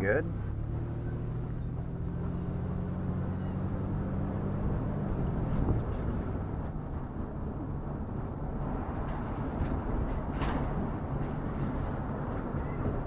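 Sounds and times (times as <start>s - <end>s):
low engine hum: 0.0s - 13.0s
road rumble: 0.0s - 13.0s.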